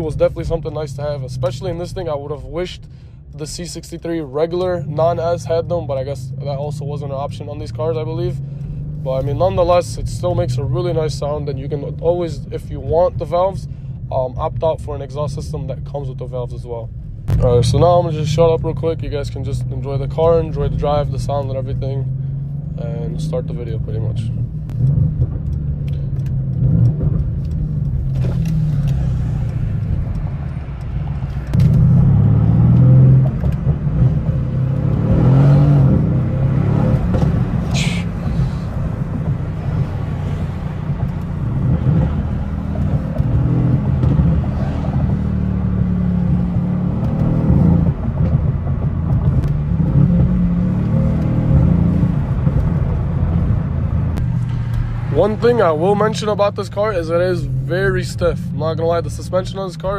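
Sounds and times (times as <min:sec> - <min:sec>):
car engine heard from inside: 0:00.0 - 0:59.9.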